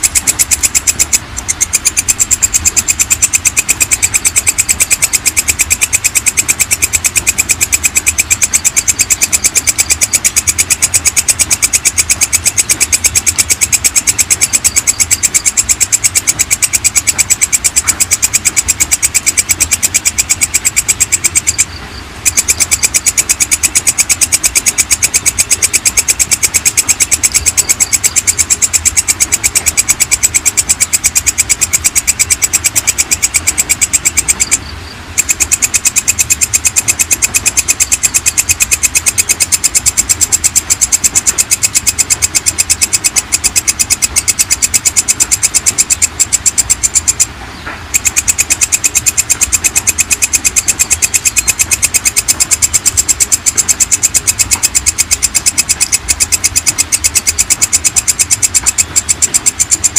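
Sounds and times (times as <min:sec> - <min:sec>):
katydid chirping: 0:00.0 - 0:59.9.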